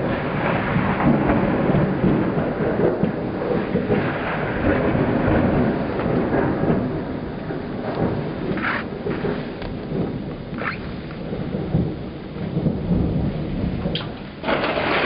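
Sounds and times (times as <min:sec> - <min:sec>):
heavy rain hissing: 0:00.0 - 0:15.0
rolling thunder: 0:00.0 - 0:15.0.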